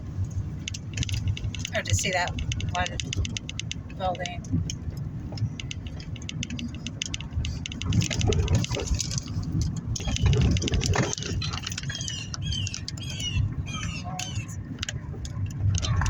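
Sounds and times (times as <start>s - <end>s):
road noise rumble inside car: 0.0s - 16.0s
rapid irregular clicking: 0.2s - 16.0s.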